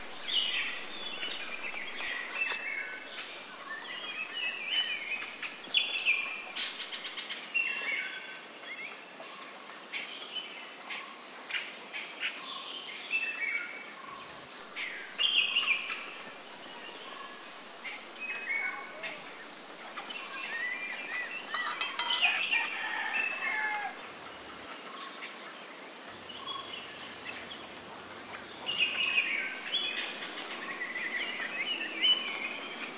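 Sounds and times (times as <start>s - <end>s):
songbirds chirping: 0.0s - 32.9s.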